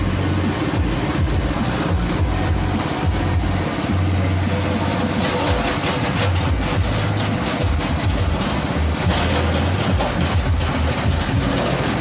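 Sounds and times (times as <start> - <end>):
grinding machine running: 0.0 - 12.0.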